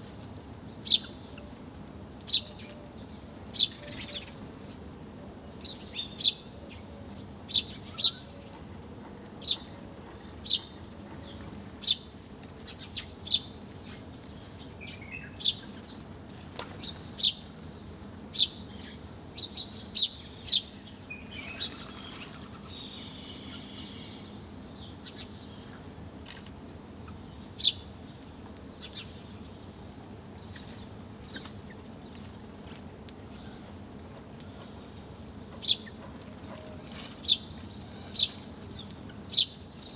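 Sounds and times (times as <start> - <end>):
low background noise: 0.0 - 39.9
small birds chirping: 0.1 - 39.9.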